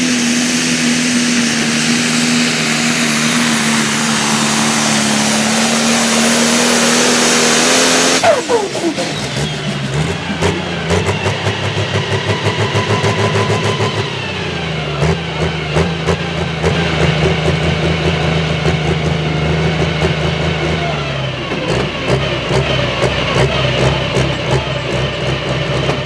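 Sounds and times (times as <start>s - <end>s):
diesel engine idling: 0.0s - 7.1s, 8.2s - 26.0s.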